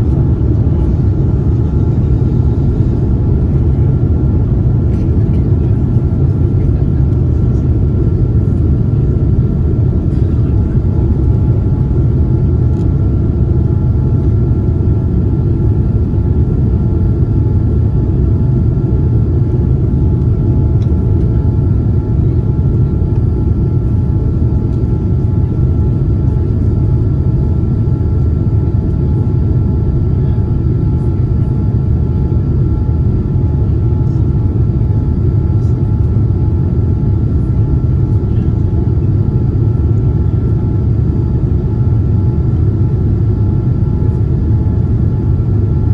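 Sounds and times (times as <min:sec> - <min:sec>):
airliner cabin rumble: 0:00.0 - 0:45.9.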